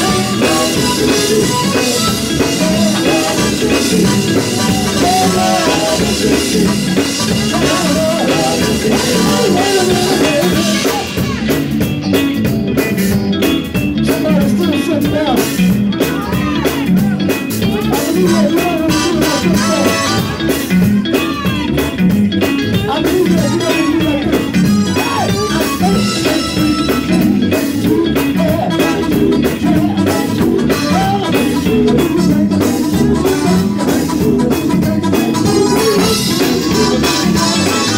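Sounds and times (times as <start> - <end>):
men singing: 0.0 - 11.6, 14.0 - 21.8, 22.7 - 37.9
drum kit beat: 0.0 - 37.9
electric guitar: 0.0 - 37.9.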